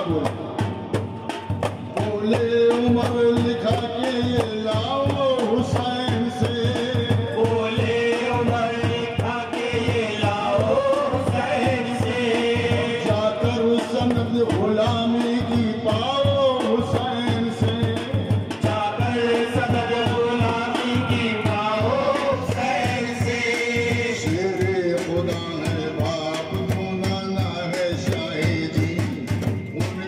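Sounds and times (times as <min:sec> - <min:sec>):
men singing over a pa: 0:00.0 - 0:30.0
steady beat: 0:00.0 - 0:30.0.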